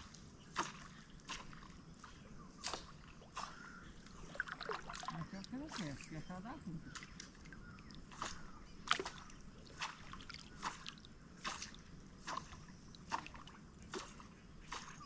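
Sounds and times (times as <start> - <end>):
lure splashing on water: 0.0 - 15.0.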